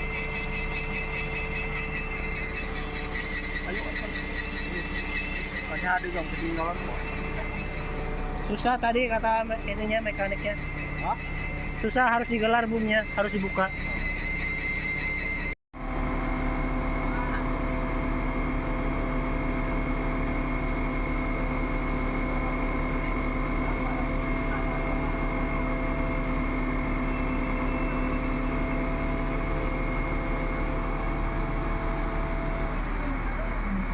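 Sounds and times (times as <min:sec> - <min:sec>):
hydraulic whining tones: 0:00.0 - 0:15.6, 0:17.4 - 0:33.9
concrete pump truck humming: 0:00.0 - 0:33.9.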